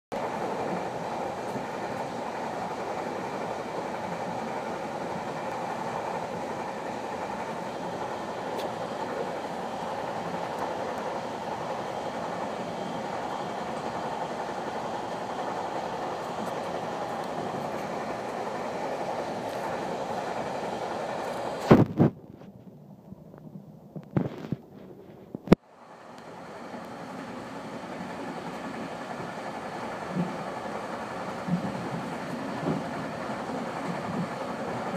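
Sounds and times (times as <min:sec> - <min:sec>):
train wheels rumbling on rail: 0:00.1 - 0:34.9.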